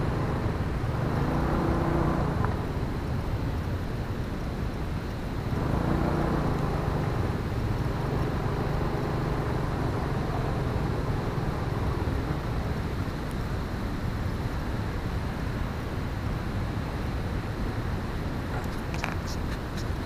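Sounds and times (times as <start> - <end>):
vehicle engine running: 0.0 - 20.0
wind and road noise: 0.0 - 20.0.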